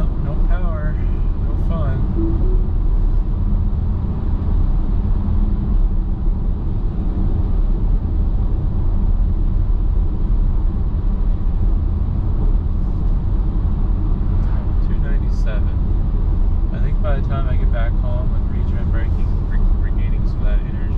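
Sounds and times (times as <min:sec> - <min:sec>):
road and tyre noise in car cabin: 0:00.0 - 0:20.9.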